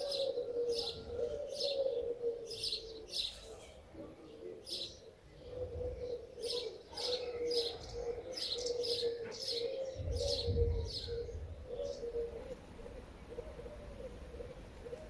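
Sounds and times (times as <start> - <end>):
bird chirping: 0.0 - 15.0
low warbling coo: 0.0 - 15.0.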